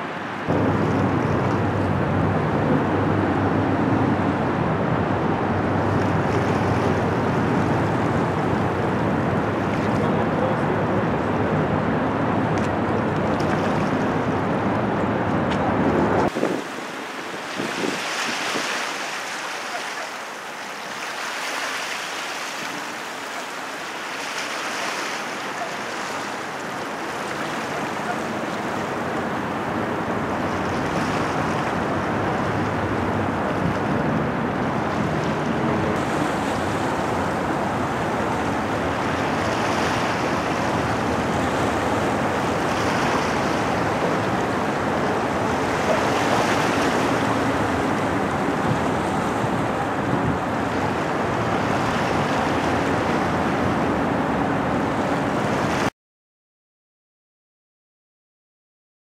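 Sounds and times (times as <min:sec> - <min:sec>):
waves washing: 0:00.0 - 0:55.9
wind buffeting microphone: 0:00.4 - 0:19.5, 0:25.2 - 0:55.9.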